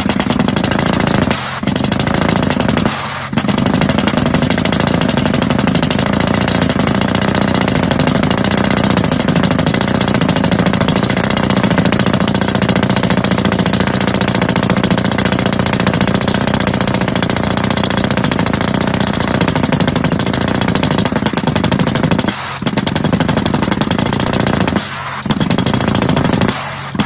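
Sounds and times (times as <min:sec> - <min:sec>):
drill rig hammering: 0:00.0 - 0:27.0.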